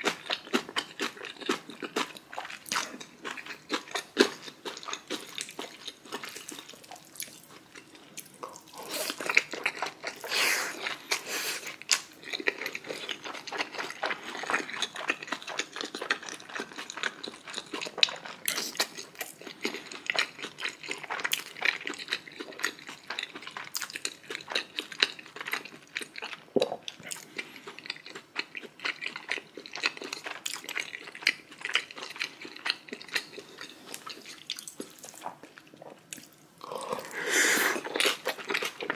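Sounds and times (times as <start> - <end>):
person chewing wetly: 0.0 - 38.9.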